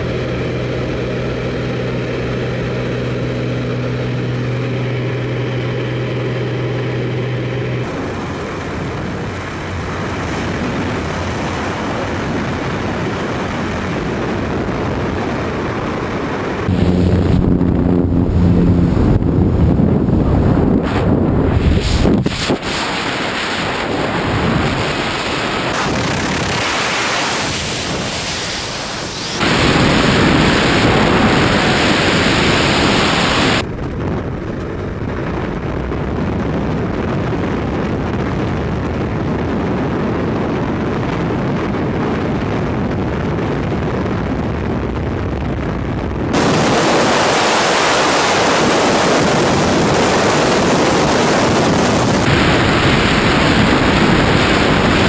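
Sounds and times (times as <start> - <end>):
freefall wind rush: 0.0 - 55.0.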